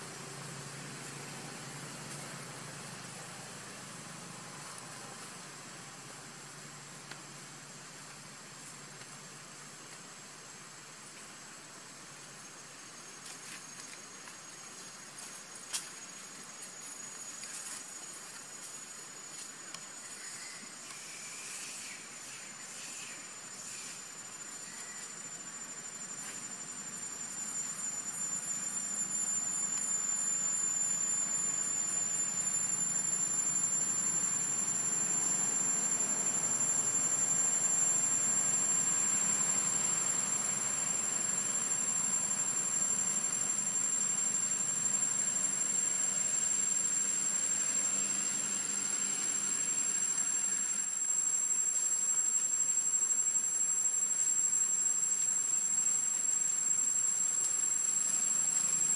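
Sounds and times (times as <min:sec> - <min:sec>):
cicadas droning: 0:00.0 - 0:58.9.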